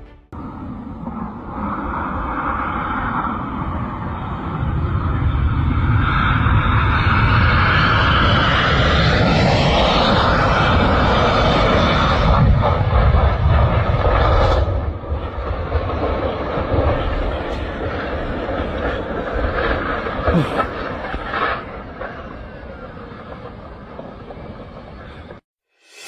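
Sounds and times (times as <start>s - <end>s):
aircraft engine roar: 0.0s - 26.0s.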